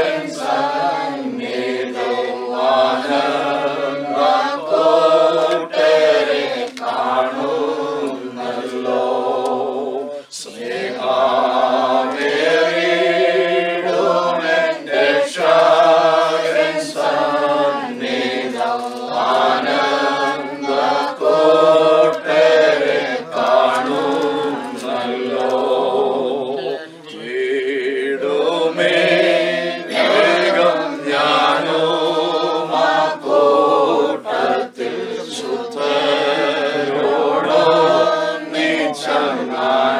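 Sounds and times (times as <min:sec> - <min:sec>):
group singing a hymn unaccompanied: 0:00.0 - 0:39.9.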